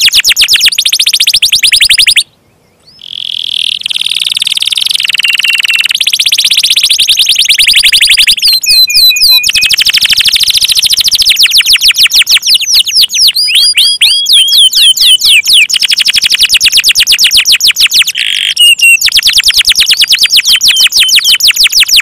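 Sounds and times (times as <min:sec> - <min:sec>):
canary singing trills: 0:00.0 - 0:22.0.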